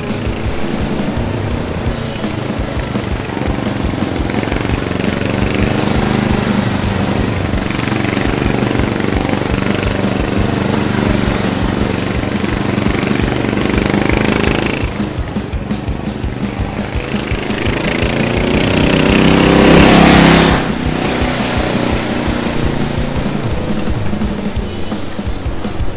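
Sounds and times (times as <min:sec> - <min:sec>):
riding mower engine running: 0:00.0 - 0:25.9.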